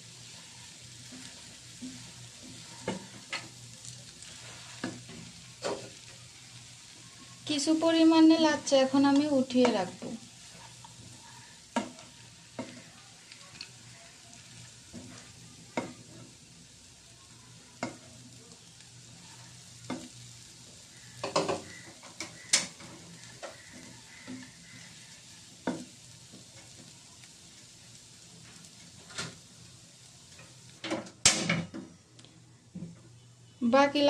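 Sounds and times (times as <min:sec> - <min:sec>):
spoon stirring and scraping pan: 0:00.1 - 0:07.7, 0:08.4 - 0:16.8, 0:17.7 - 0:29.4.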